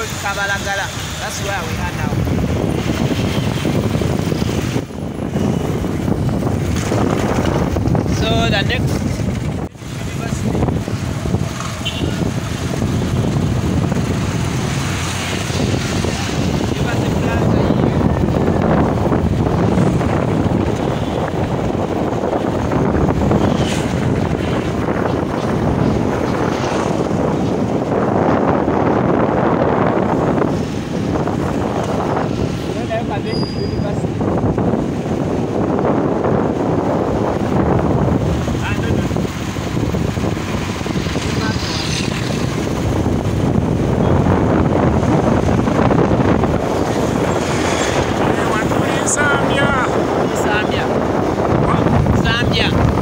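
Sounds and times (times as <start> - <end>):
motorcycle ride rushing noise: 0.0 - 53.0
road noise: 0.0 - 53.0
wind buffeting microphone: 0.0 - 53.0.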